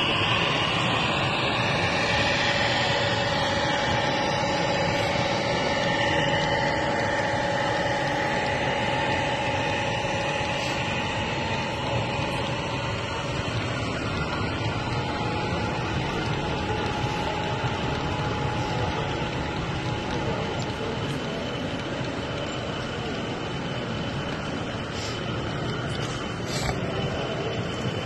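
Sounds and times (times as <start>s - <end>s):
model locomotive diesel engine: 0.0s - 28.0s.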